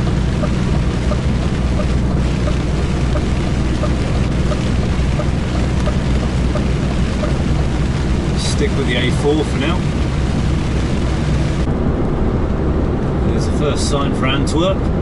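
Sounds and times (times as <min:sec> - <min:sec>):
tyre noise on wet road: 0:00.0 - 0:14.6
lorry diesel engine drone: 0:00.0 - 0:15.0.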